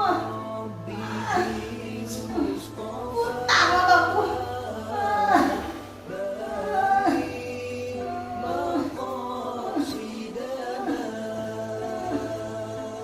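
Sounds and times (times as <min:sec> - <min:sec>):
wavering melodic singing: 0:00.0 - 0:13.0.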